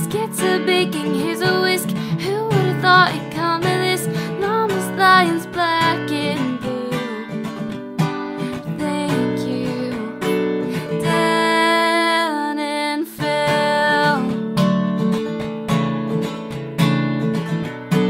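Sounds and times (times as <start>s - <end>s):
song with strummed acoustic guitar: 0.0s - 18.0s.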